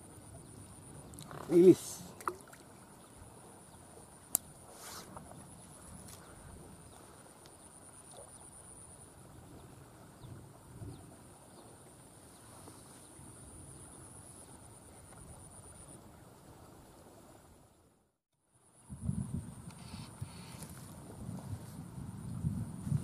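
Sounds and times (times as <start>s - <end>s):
insects droning: 0.0s - 17.7s, 18.4s - 23.0s.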